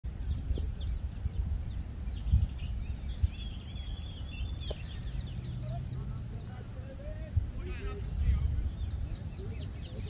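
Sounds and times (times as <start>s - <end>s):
birds chirping: 0.1s - 10.0s.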